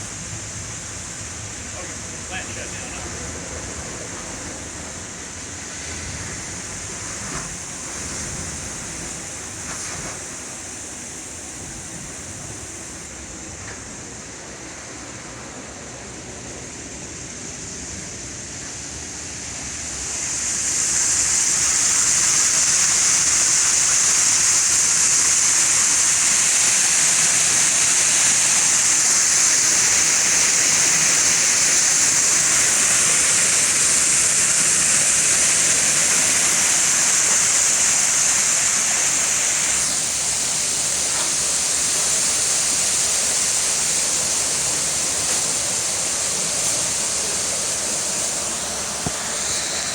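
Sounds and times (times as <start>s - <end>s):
water rushing in a tank: 0.0s - 49.9s.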